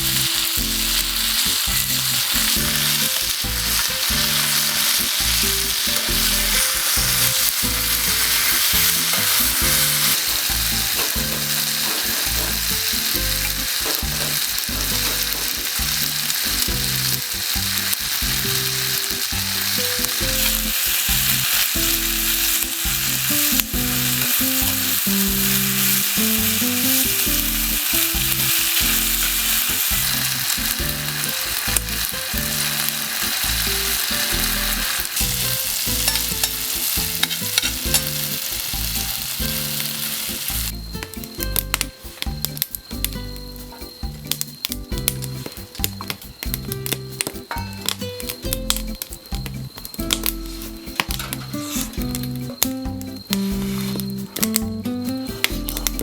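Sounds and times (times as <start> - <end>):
meat sizzling in a frying pan: 0.0 - 56.0
slow low melody: 0.0 - 56.0.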